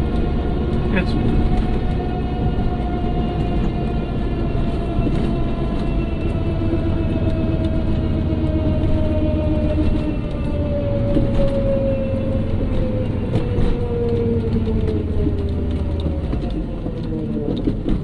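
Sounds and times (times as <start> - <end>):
car whining over low rumble: 0.0 - 18.0.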